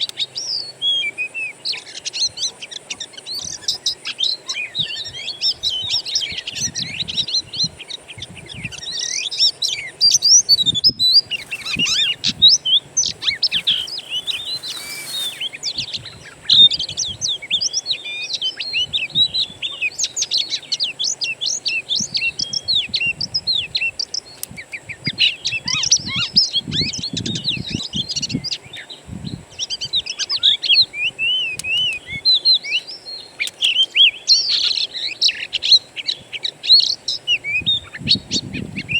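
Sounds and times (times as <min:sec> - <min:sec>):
songbirds chirping and trilling: 0:00.0 - 0:25.7, 0:29.8 - 0:38.9.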